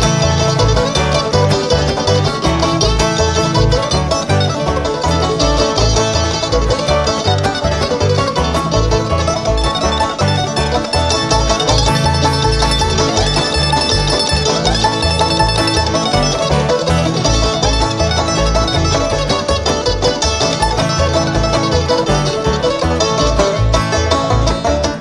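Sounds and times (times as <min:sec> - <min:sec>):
banjo picking: 0:00.0 - 0:25.0
bass notes: 0:00.0 - 0:25.0
strummed guitar: 0:00.0 - 0:25.0.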